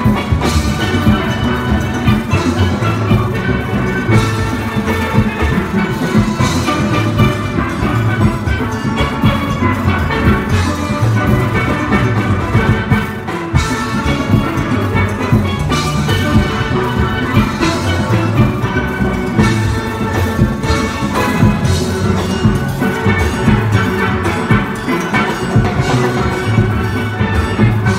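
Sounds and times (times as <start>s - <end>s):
steel band playing: 0.0s - 27.9s.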